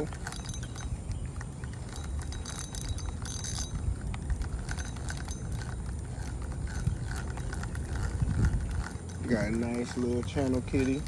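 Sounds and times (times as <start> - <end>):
fishing reel clicking: 0.0 - 11.0
steady low rumble: 0.0 - 11.0.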